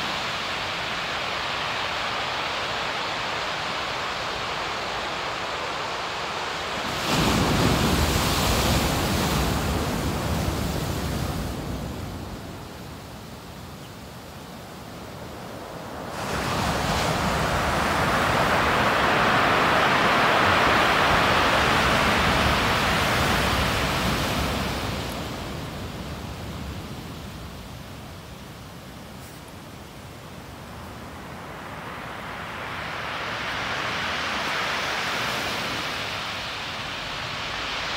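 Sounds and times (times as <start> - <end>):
sea waves breaking on shore: 0.0 - 13.2, 14.8 - 37.9.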